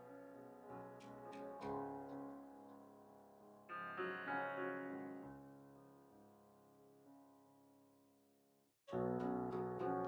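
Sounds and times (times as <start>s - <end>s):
soft piano music: 0.0s - 7.9s, 8.9s - 10.0s.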